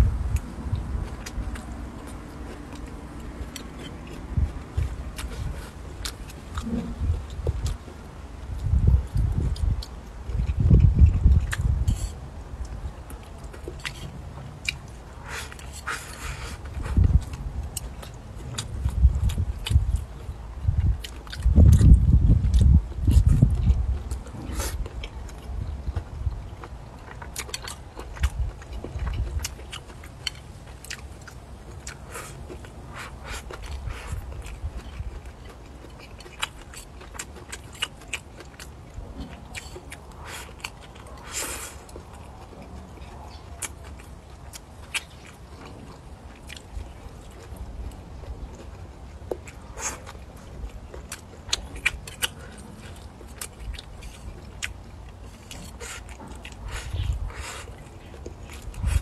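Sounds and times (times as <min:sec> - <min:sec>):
chewing food: 0:00.0 - 0:59.0
steady low rumble: 0:00.0 - 0:59.0.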